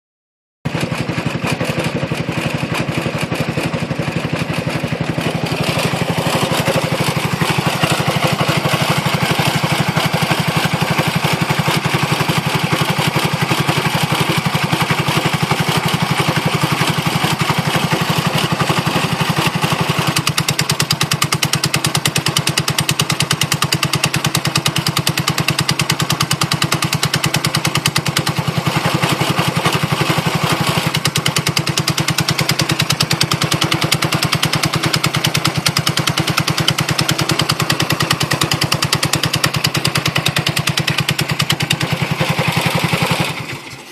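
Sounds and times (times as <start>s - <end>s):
scooter engine running: 0.7s - 43.9s.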